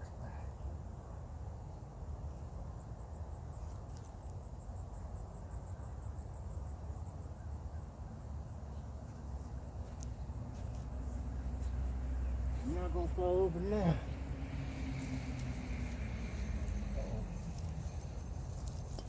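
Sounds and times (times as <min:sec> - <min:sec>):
insects trilling: 0:02.8 - 0:19.0.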